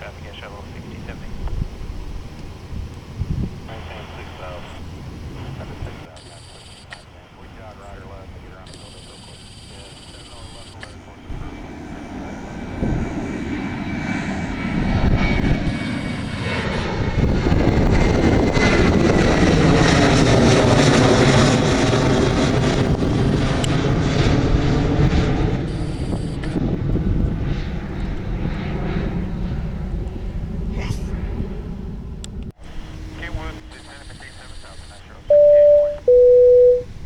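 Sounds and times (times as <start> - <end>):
jet airliner engine roar: 0.0 - 37.0
high whine gliding downward: 3.7 - 26.6, 27.5 - 37.0.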